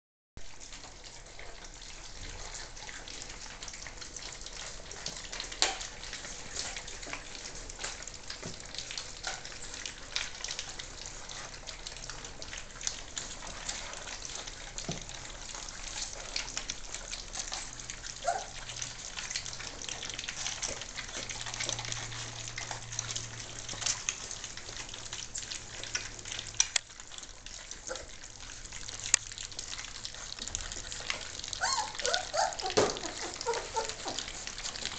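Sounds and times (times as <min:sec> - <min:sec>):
puppies lapping and slurping: 0:00.4 - 0:34.9.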